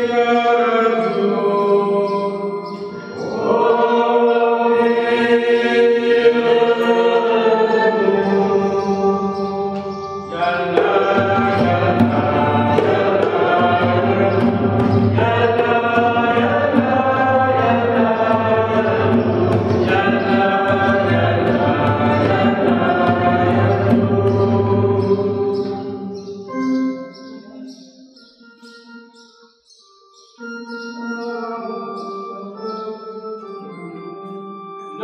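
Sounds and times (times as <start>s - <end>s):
church choir singing a hymn: 0.0s - 27.8s, 31.3s - 35.0s
instrumental accompaniment: 0.0s - 35.0s.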